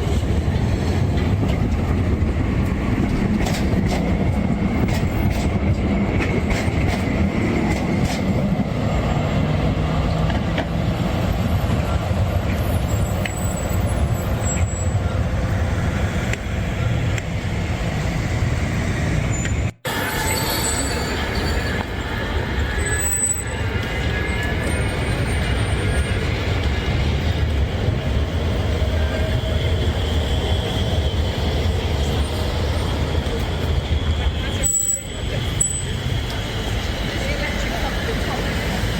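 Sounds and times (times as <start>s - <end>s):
city street traffic rumble: 0.0s - 38.9s.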